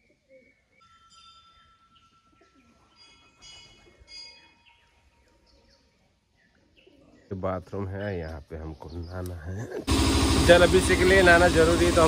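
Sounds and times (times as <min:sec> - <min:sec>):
woodland birdsong: 0:00.0 - 0:09.8.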